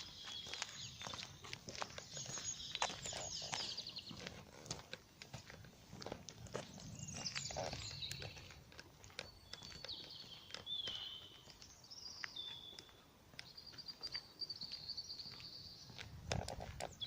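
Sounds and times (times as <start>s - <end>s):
songbirds singing: 0.0s - 5.0s, 5.6s - 17.0s
faint footsteps: 0.0s - 17.0s.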